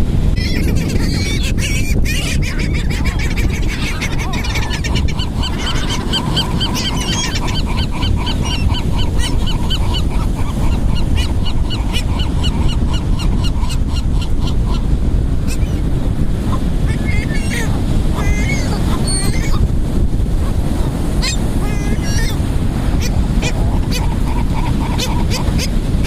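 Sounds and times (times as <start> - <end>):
surf: 0.0 - 26.0
wind on microphone: 0.0 - 26.0
gulls calling: 0.4 - 19.8, 20.4 - 26.0.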